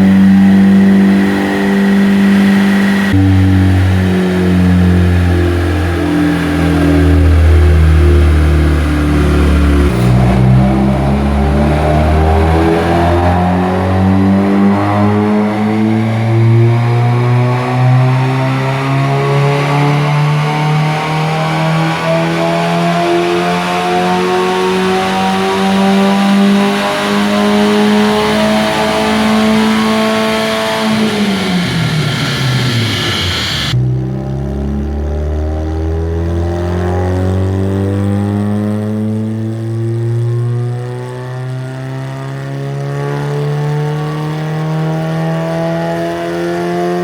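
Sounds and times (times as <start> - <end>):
car engine revving at full throttle: 0.0 - 47.0.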